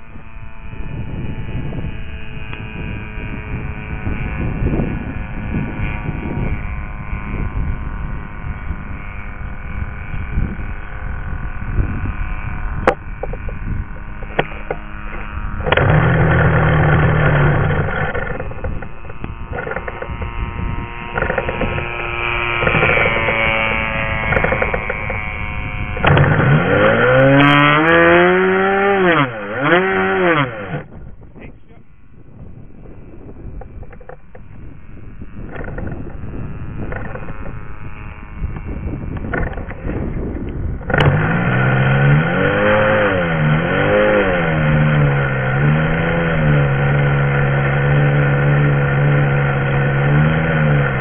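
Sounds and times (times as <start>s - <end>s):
model airplane engine running: 0.0s - 51.0s
wind on microphone: 0.0s - 51.0s.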